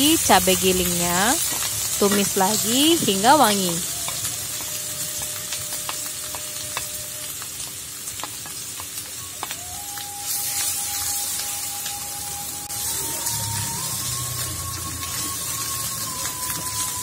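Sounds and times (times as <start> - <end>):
spice paste sizzling in oil: 0.0 - 17.0.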